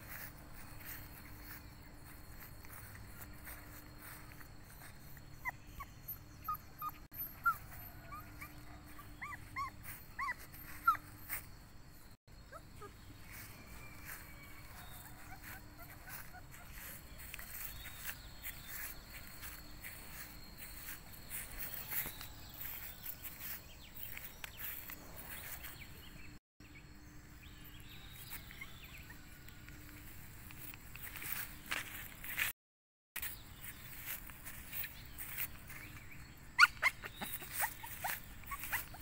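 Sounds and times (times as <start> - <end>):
footsteps in dry grass: 0.0 - 5.6, 7.4 - 11.6, 12.4 - 26.4, 27.9 - 32.6, 33.2 - 39.0.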